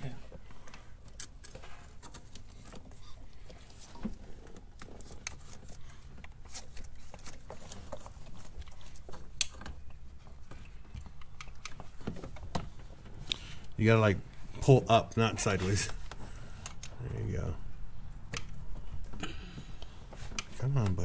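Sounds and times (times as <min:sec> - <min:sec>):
plastic parts clicking and creaking: 0:00.0 - 0:14.4, 0:15.0 - 0:17.5, 0:18.2 - 0:21.0.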